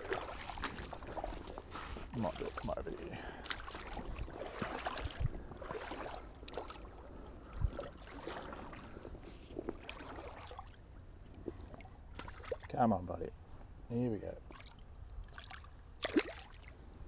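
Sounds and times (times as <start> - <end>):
creek water sloshing and splashing: 0.0 - 12.8, 14.4 - 16.8.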